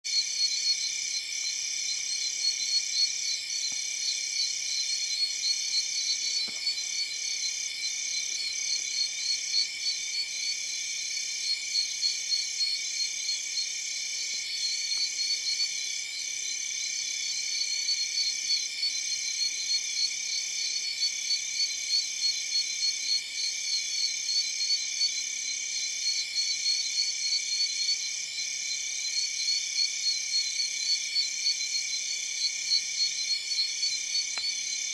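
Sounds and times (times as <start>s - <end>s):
insects and frogs calling: 0.1s - 34.9s.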